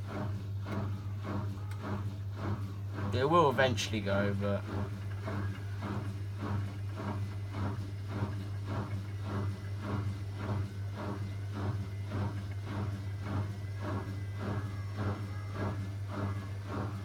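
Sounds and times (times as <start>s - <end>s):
washing machine motor humming: 0.0s - 17.0s
wet laundry swishing in drum: 0.0s - 17.0s.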